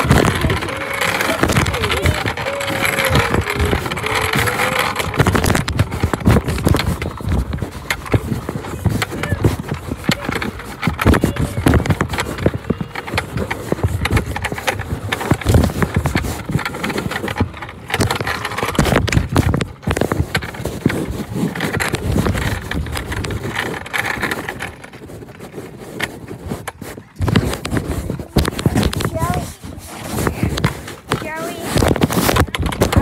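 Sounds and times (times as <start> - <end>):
phone microphone handling noise: 0.0 - 33.0.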